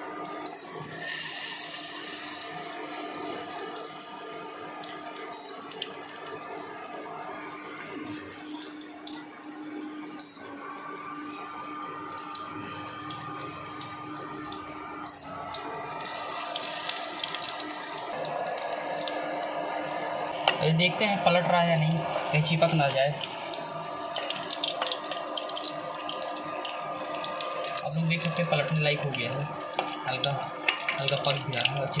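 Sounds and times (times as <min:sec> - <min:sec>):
deep-frying in hot oil: 0:00.0 - 0:32.0.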